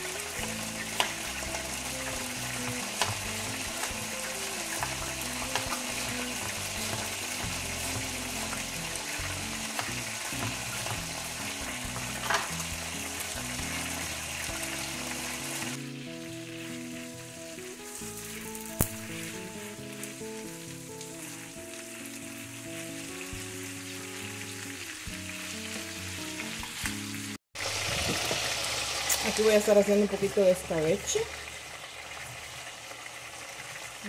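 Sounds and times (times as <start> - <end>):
background music: 0.0 - 27.4
food sizzling in a pan: 0.0 - 34.0.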